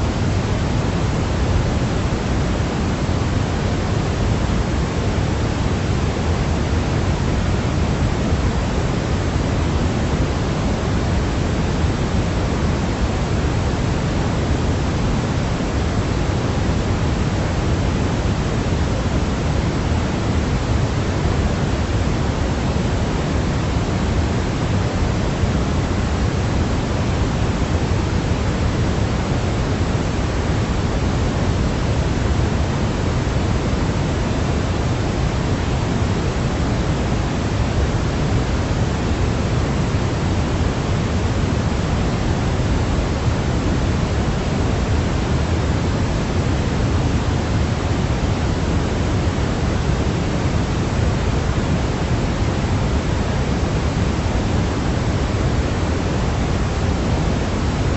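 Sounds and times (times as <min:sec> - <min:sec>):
steady low hiss: 0:00.0 - 0:57.9.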